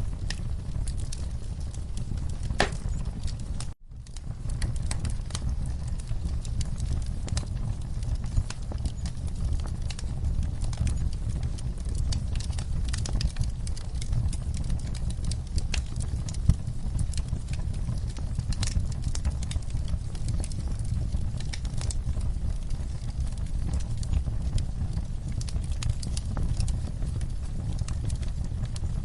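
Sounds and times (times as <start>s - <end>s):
burning wood crackling: 0.0s - 29.0s
flames rumbling: 0.0s - 29.0s.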